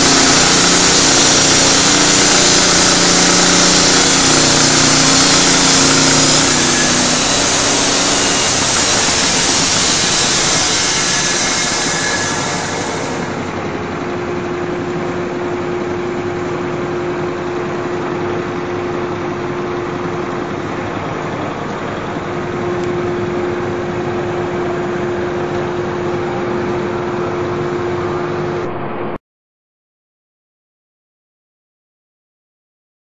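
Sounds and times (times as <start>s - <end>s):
band sawmill humming and whining: 0.0s - 29.2s.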